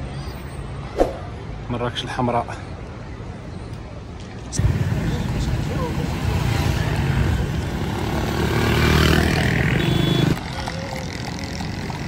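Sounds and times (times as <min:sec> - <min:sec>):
outdoor street noise rumble: 0:00.0 - 0:12.0.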